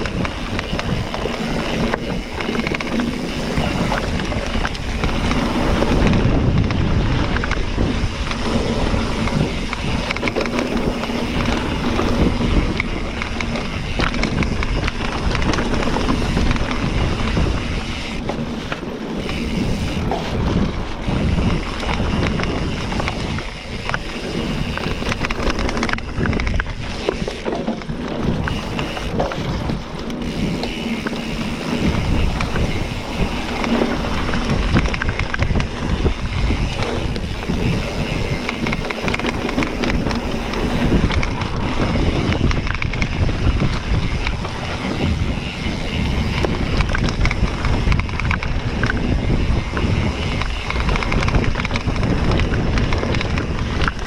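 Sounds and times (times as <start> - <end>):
bike rattling and clicking: 0.0 - 54.0
bike tyres on dirt: 0.0 - 54.0
wind buffeting microphone: 0.0 - 54.0.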